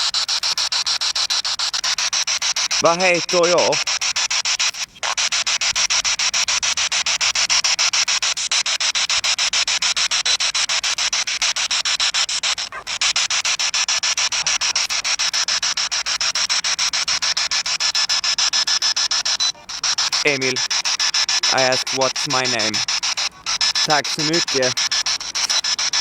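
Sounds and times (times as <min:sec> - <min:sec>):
pulsing radio static: 0:00.0 - 0:26.0.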